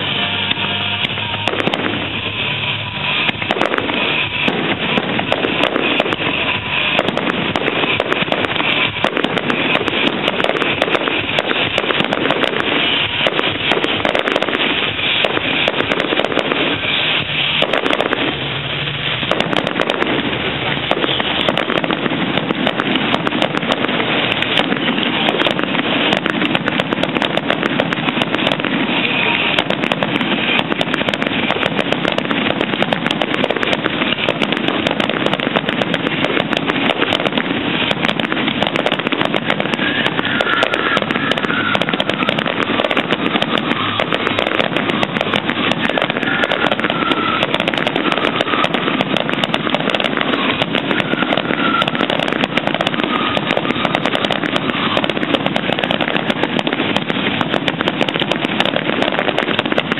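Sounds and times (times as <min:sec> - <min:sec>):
crackling fireworks: 0:00.0 - 0:59.9.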